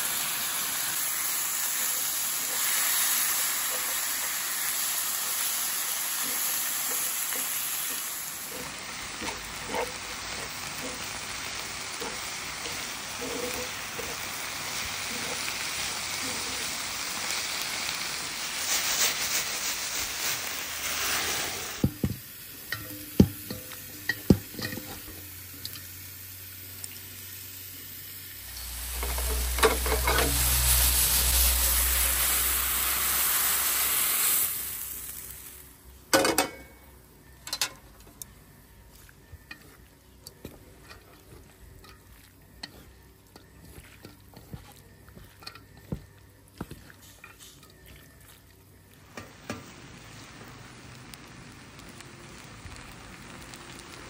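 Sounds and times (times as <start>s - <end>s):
food sizzling in a pan: 0.0s - 37.9s, 39.2s - 54.0s.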